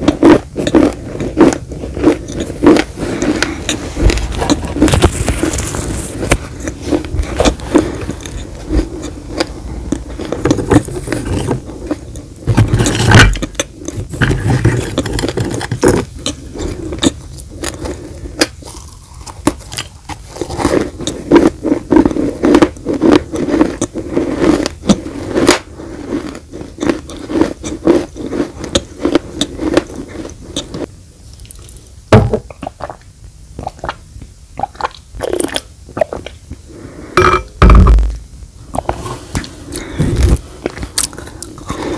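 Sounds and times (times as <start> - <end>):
crunchy clay being chewed: 0.0 - 34.0, 38.8 - 41.9.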